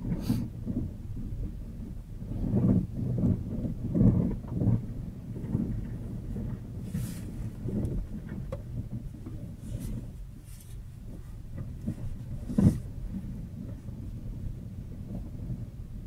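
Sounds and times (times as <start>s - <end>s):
tyres rumbling over snow: 0.0s - 16.0s.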